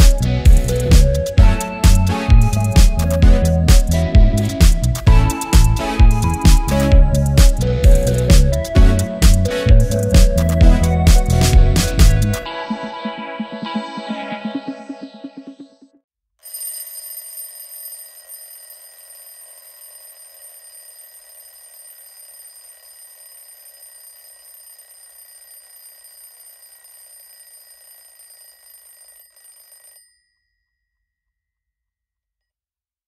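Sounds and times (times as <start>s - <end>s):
alarm clock ringing: 0.0s - 12.6s, 16.4s - 30.4s.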